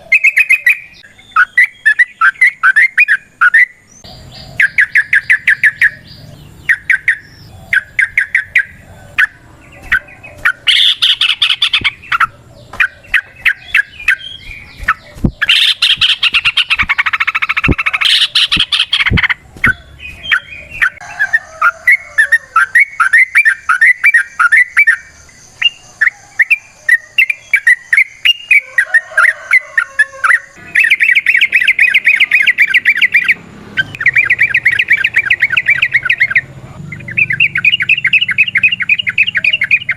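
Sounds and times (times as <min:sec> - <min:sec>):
bulbul singing chattering chirps: 0:00.0 - 0:39.9.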